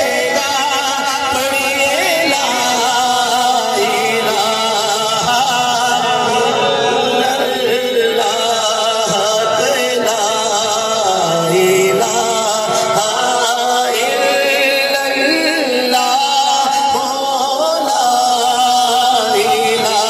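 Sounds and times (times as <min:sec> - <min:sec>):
man chanting through microphone: 0:00.0 - 0:20.0.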